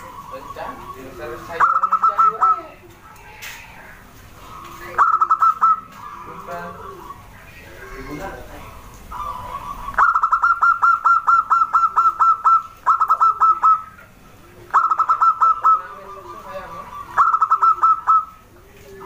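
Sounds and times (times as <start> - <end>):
dove calling in staccato runs: 0.0 - 7.3, 8.8 - 18.5.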